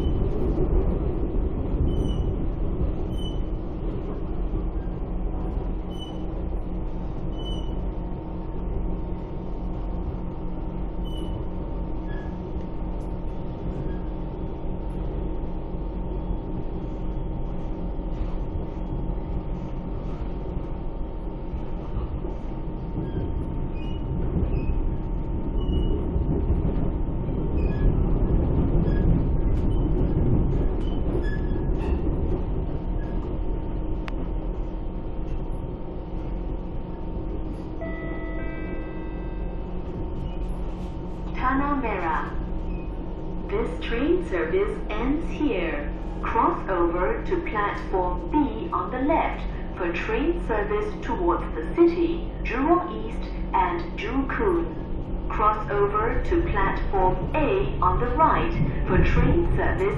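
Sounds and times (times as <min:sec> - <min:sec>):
constant hum: 0:00.0 - 0:59.9
metro train wheels rumbling on rail: 0:00.0 - 0:59.9.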